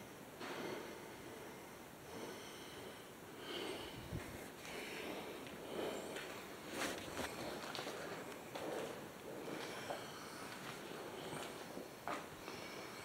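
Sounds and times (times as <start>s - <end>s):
person breathing: 0.1s - 13.0s.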